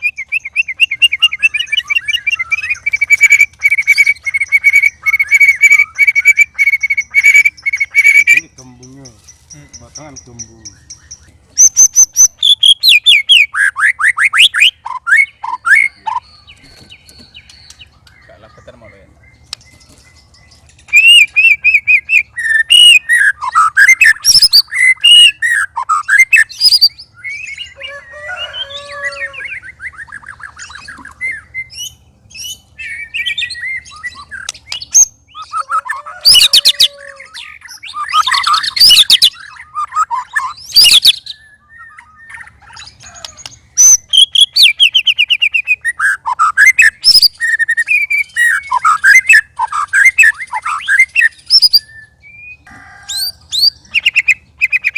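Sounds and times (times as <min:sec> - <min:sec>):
bird singing whistles and trills: 0:00.0 - 0:54.9.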